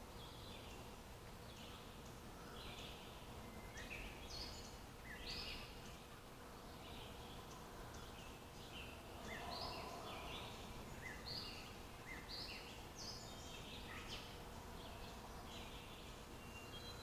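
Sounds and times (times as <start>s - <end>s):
birds chirping and warbling: 0.0s - 17.0s
faint outdoor hiss: 0.0s - 17.0s.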